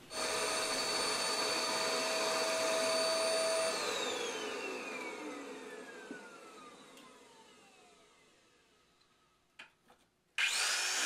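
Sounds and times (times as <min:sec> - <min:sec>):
hand-held vacuum cleaner whine: 0:00.0 - 0:09.0, 0:10.4 - 0:11.0.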